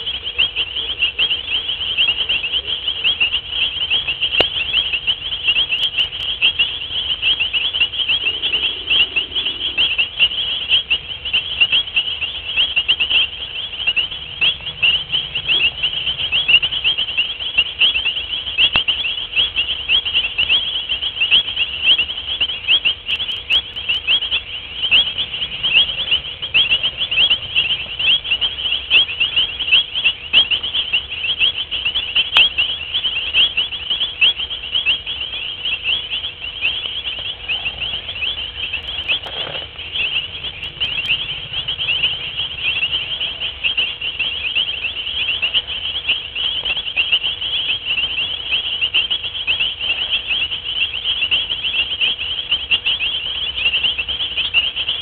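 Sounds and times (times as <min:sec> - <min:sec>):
night chorus of chirping callers: 0:00.0 - 0:55.0.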